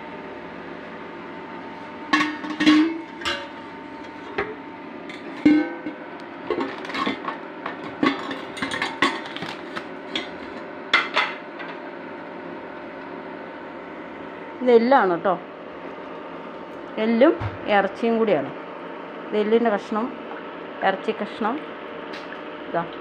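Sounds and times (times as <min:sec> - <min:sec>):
appliance hum: 0:00.0 - 0:23.0.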